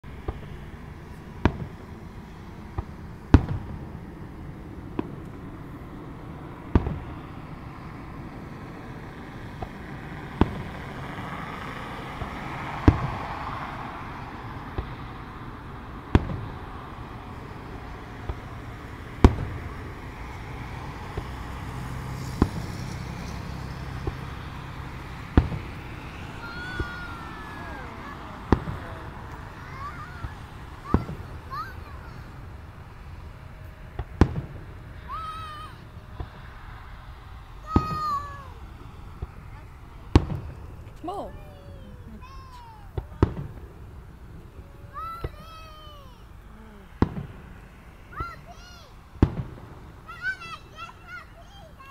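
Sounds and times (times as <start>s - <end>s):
distant fireworks bangs: 0.1s - 51.9s.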